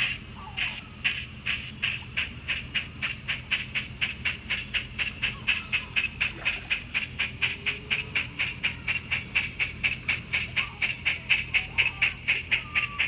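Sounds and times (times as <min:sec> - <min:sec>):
low steady hum: 0:00.0 - 0:13.0
steam locomotive chuffing: 0:00.0 - 0:13.0.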